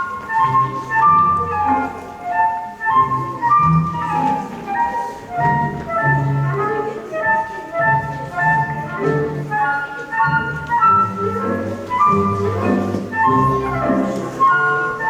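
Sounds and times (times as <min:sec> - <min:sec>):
light instrumental melody: 0:00.0 - 0:15.0.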